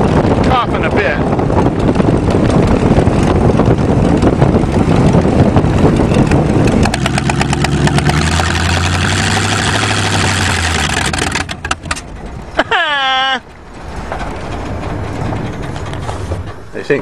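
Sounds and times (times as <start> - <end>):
car engine drone: 0.0 - 17.0
wind and road rush: 0.0 - 17.0.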